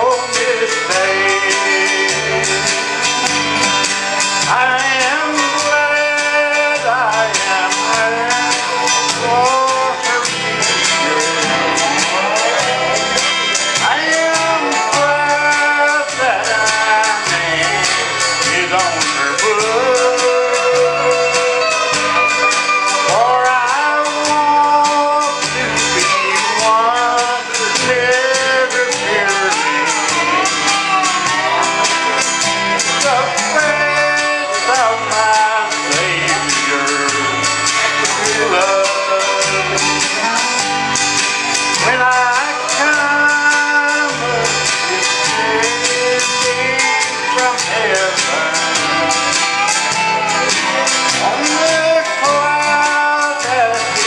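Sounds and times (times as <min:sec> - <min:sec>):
bass line: 0:00.0 - 0:54.0
person singing: 0:00.0 - 0:54.0
plucked guitar: 0:00.0 - 0:54.0.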